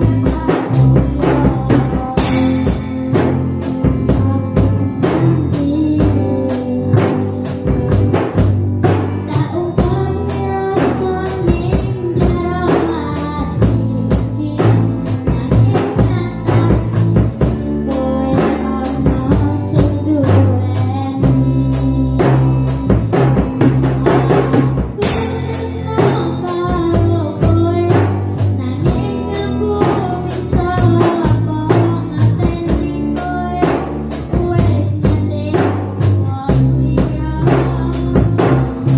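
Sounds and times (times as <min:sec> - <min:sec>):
pop band music: 0:00.0 - 0:38.9.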